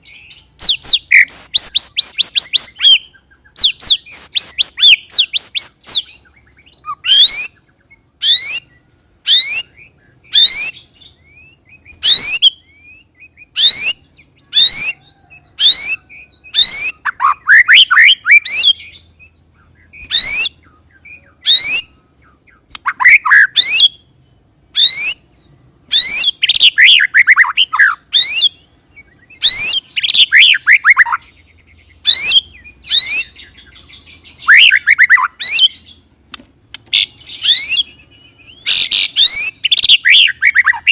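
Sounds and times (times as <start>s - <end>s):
songbird whistling song: 0.0s - 40.9s.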